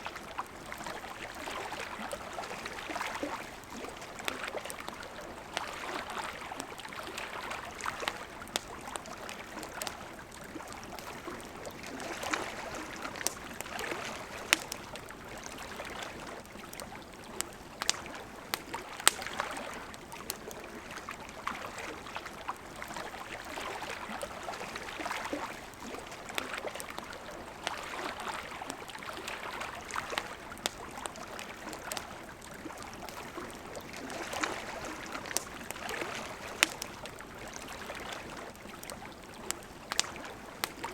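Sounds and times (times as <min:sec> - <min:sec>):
river flowing: 0:00.0 - 0:40.9
campfire crackling and popping: 0:00.1 - 0:40.9.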